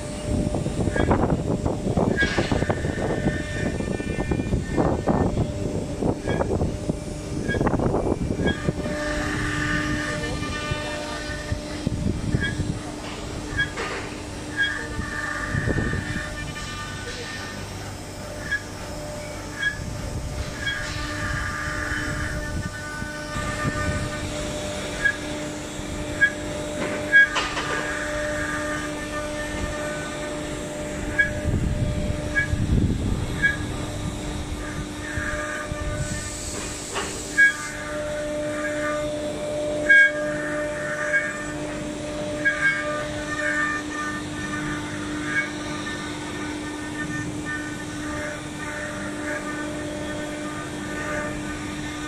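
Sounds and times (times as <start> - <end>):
router spindle whine: 0.0 - 52.0.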